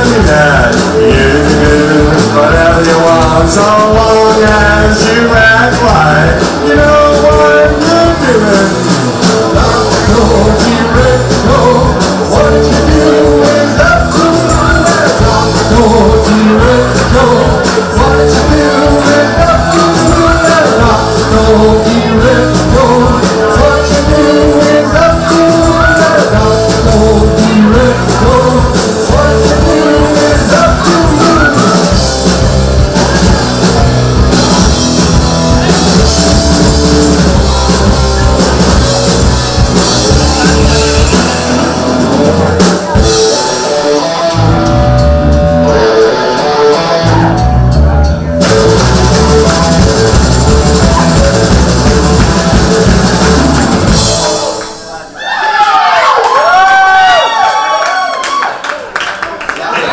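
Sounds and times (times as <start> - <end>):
rock band playing live: 0.0 - 55.2.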